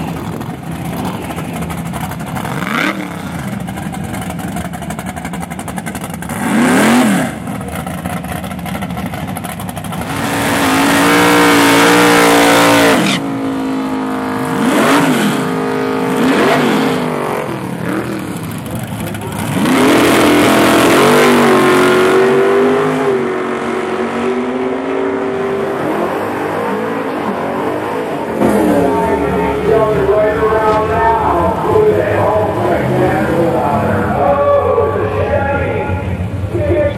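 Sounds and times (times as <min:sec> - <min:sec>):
race car engines revving: 0:00.0 - 0:36.9.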